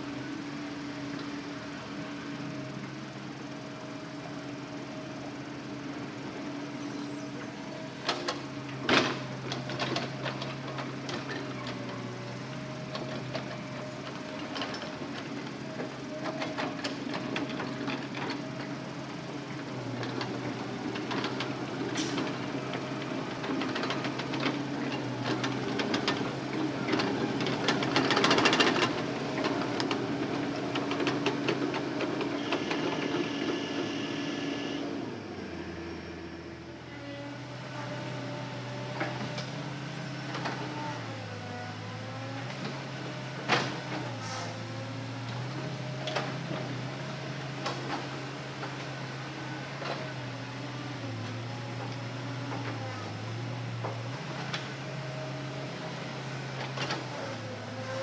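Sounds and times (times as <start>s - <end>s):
excavator diesel engine and hydraulics: 0.0s - 58.0s.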